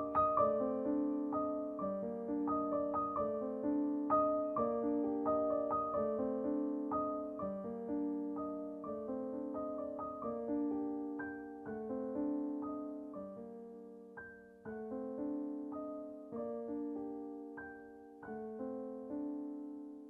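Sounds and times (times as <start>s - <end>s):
slow calm piano melody: 0.0s - 20.0s.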